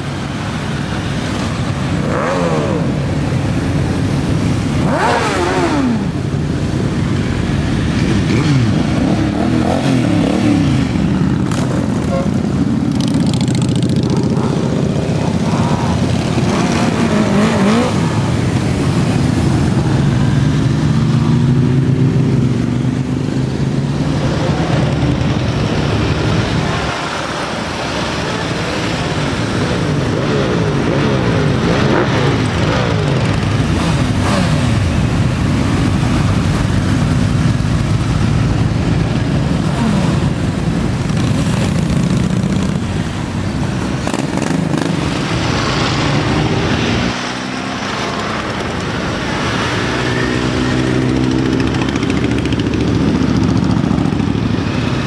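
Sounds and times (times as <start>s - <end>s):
motorcycles riding past: 0.0s - 55.0s.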